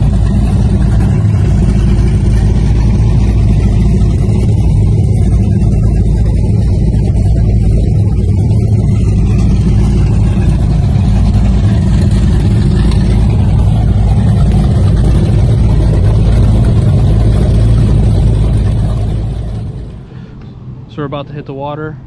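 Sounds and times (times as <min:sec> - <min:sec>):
boat engines idling: 0:00.0 - 0:22.0.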